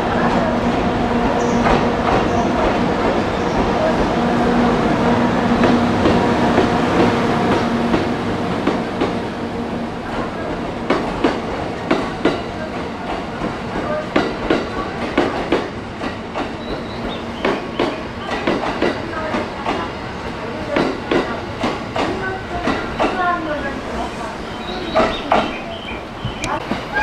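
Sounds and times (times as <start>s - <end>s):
electric locomotive humming: 0.0s - 27.0s.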